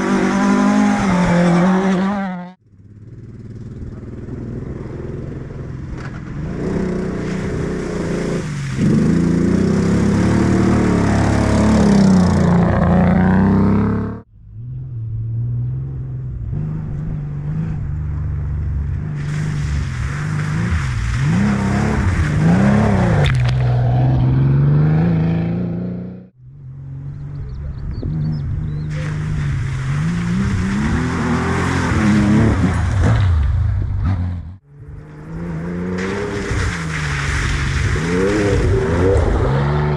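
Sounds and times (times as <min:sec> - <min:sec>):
rally car engines revving: 0:00.0 - 0:02.6, 0:06.0 - 0:39.9.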